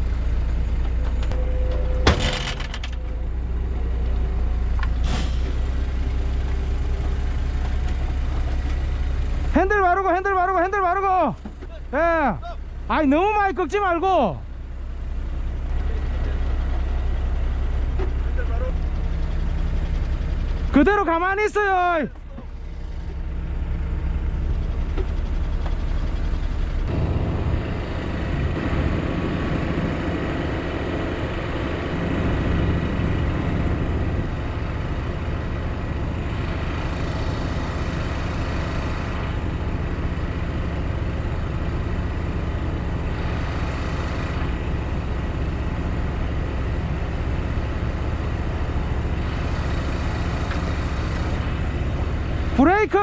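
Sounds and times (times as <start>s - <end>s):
diesel truck engine rumbling: 0.0s - 53.0s.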